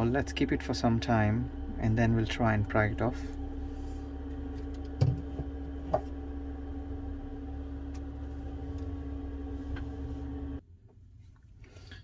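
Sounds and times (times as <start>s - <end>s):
low electrical hum: 0.0s - 11.5s.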